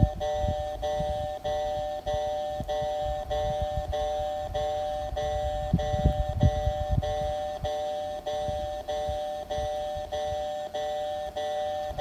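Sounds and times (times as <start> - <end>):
level crossing two-tone bell: 0.0 - 12.0.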